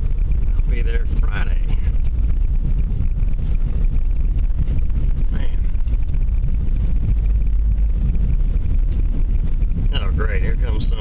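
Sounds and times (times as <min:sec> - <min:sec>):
car driving rumble from cabin: 0:00.0 - 0:11.0.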